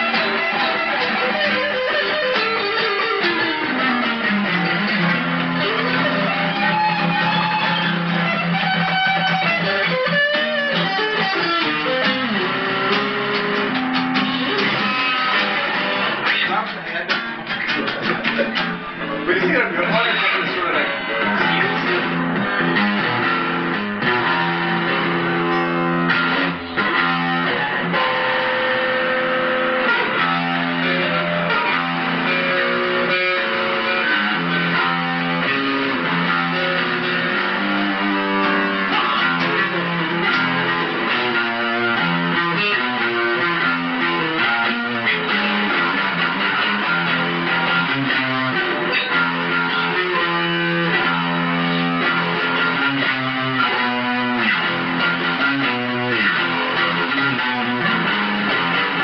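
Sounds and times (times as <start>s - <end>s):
guitar playing: 0.0s - 59.0s.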